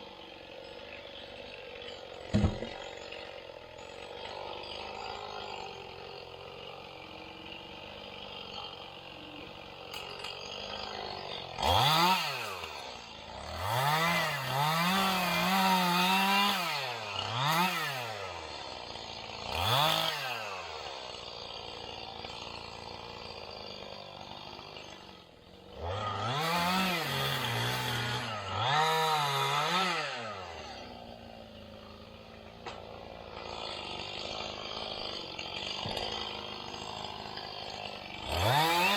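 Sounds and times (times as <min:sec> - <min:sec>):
chainsaw idling: 0:00.0 - 0:38.9
chainsaw throttle bursts: 0:00.0 - 0:38.9.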